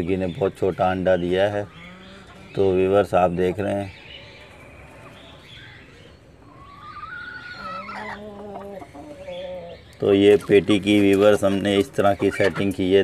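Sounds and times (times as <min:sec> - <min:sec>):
hens calling: 0:00.0 - 0:13.0.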